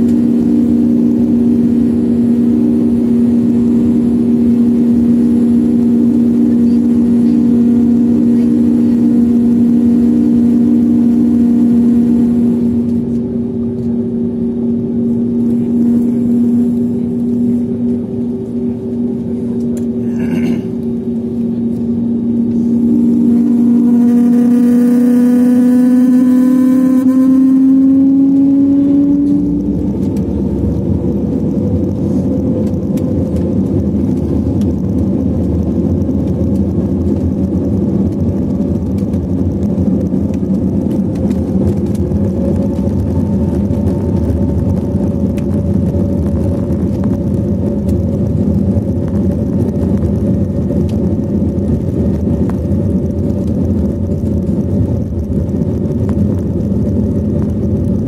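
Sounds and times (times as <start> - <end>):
jet engines roaring: 0.0 - 58.0
runway rumble: 0.0 - 58.0.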